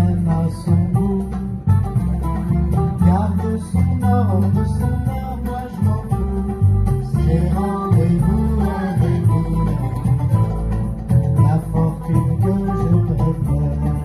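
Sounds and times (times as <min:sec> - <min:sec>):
banjo plucking: 0:00.0 - 0:14.0
double bass line: 0:00.0 - 0:14.0
oud plucking: 0:00.0 - 0:14.0.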